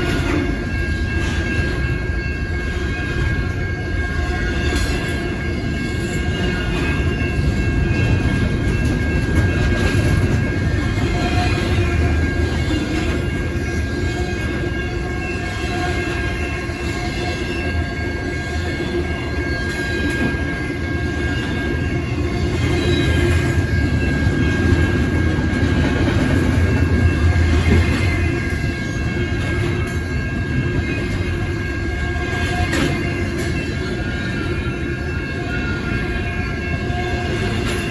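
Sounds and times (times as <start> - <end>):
freight train wheels on rail: 0.0 - 37.9.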